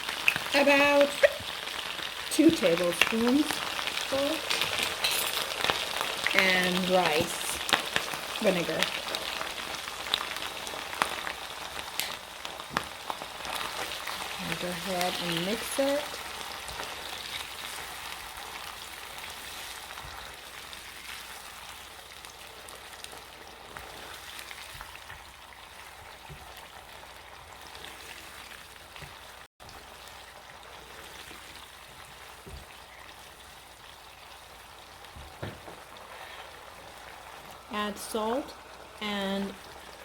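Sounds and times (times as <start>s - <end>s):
vegetables sizzling in hot oil: 0.0s - 40.0s.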